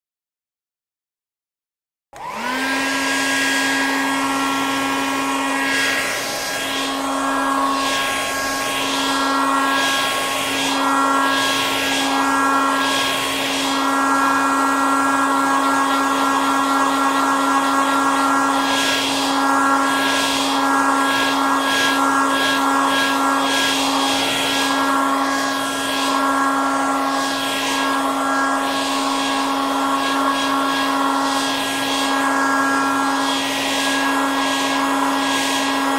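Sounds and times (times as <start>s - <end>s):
hair dryer running: 2.2s - 35.9s.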